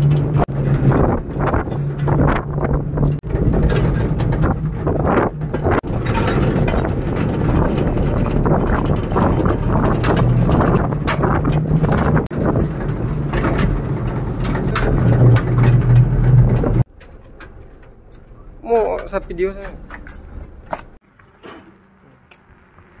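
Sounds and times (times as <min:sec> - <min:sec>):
truck engine running: 0:00.0 - 0:21.0
loose metal rattling: 0:00.0 - 0:21.6
wind and road noise: 0:00.0 - 0:23.0.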